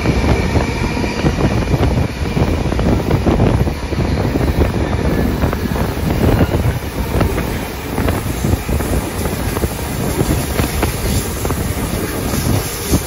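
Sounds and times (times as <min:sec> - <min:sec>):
train clattering: 0:00.0 - 0:13.0
wheel and rail rumble: 0:00.0 - 0:13.0
wind buffeting microphone: 0:00.0 - 0:13.0.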